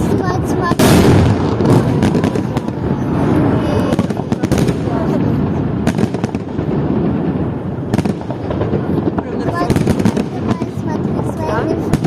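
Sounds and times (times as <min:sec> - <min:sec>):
rumble of distant fireworks: 0:00.0 - 0:12.0
sharp firework bangs: 0:00.0 - 0:12.0.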